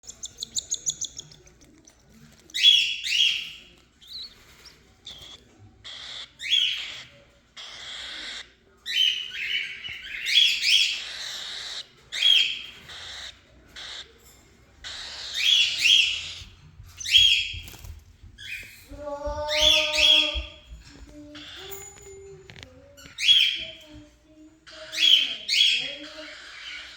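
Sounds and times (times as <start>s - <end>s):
cockatiel chirping: 0.0s - 24.0s, 24.6s - 26.9s
held bird tone: 0.0s - 24.0s.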